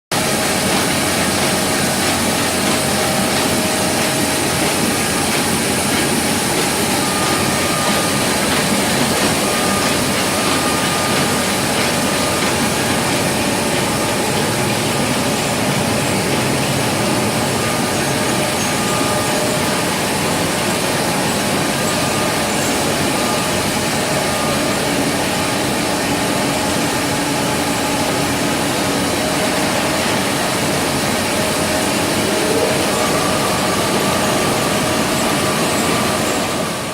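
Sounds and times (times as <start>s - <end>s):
printing press running: 0.1s - 36.9s.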